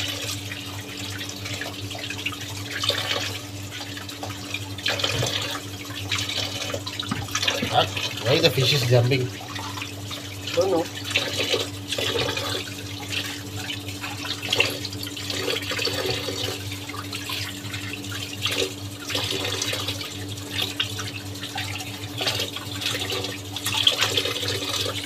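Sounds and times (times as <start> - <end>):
tap running into basin of water: 0.0 - 25.0.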